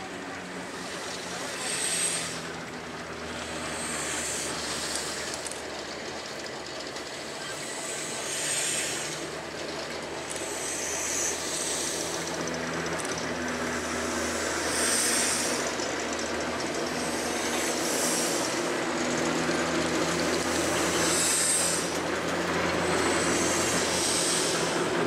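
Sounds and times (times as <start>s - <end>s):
diesel locomotive engine running: 0.0s - 25.0s
steam hissing: 0.0s - 25.0s.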